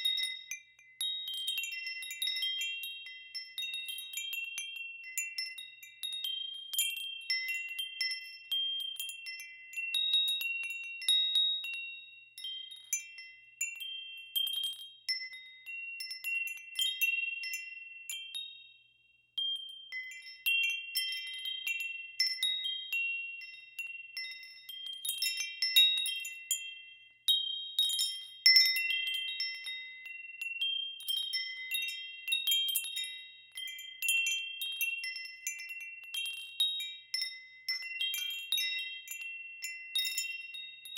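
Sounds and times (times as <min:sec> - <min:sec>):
wind chimes ringing: 0:00.0 - 0:18.8, 0:19.4 - 0:40.9.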